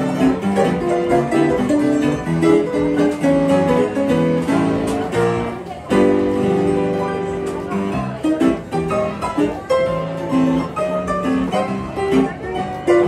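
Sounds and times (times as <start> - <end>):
upright piano tune: 0.0 - 13.0.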